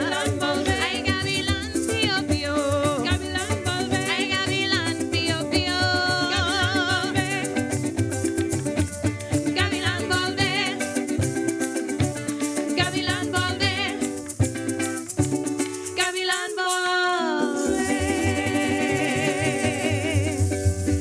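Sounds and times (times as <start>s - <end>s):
voices singing: 0.0s - 8.0s, 9.2s - 14.9s, 15.7s - 21.0s
plucked bass: 0.0s - 15.6s, 17.7s - 21.0s
maracas shaking: 0.0s - 21.0s
plucked and strummed strings: 0.0s - 21.0s.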